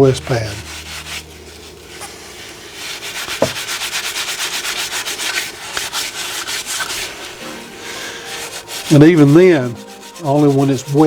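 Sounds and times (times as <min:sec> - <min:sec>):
steel wool scrubbing a skillet: 0:00.0 - 0:11.0.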